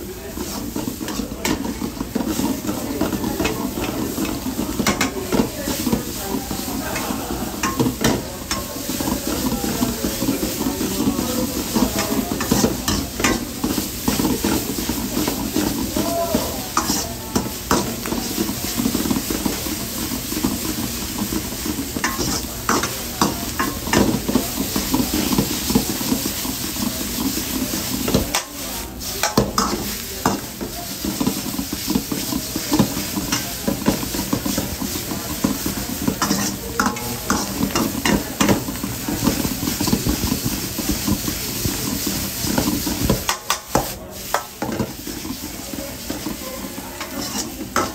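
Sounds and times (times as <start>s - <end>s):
noodles sizzling in a wok: 0.0s - 47.9s
metal ladle scraping a wok: 7.5s - 47.9s.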